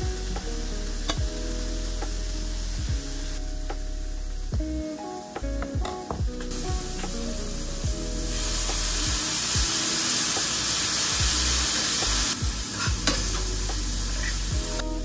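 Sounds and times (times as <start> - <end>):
frying pan sizzling: 0.0 - 4.5, 6.4 - 15.0
background music: 0.0 - 15.0.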